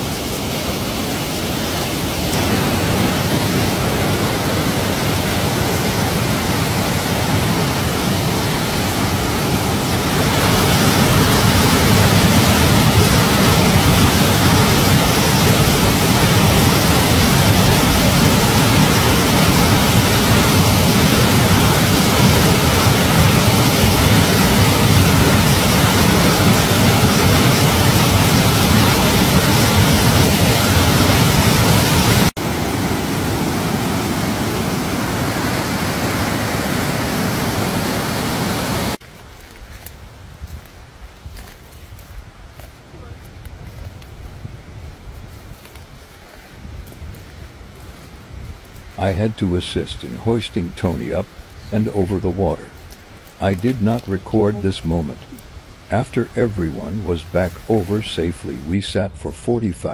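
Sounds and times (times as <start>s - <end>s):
rushing whitewater roar: 0.0s - 39.0s, 47.5s - 58.8s.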